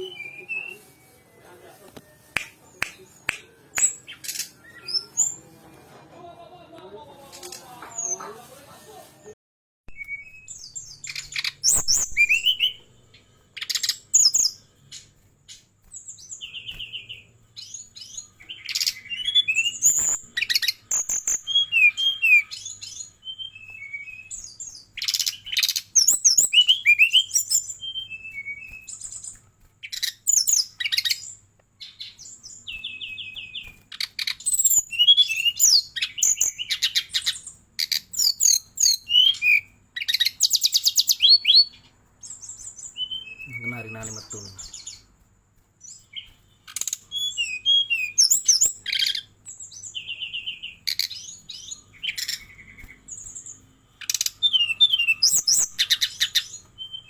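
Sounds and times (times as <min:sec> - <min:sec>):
bird singing: 0:00.0 - 0:01.4, 0:03.8 - 0:05.5, 0:09.9 - 0:57.0.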